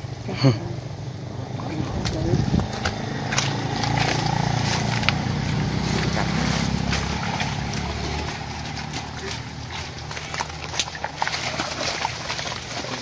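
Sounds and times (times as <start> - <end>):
small engine running: 1.2 - 13.0
clicks and rustling of fishing net: 1.9 - 13.0.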